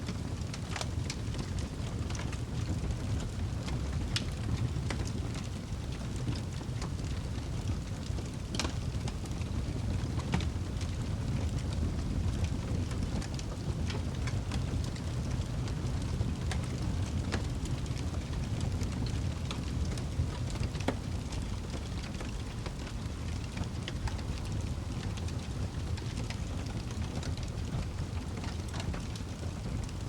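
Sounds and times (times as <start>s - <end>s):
burning wood crackling and popping: 0.0s - 30.0s
fire roaring in fireplace: 0.0s - 30.0s.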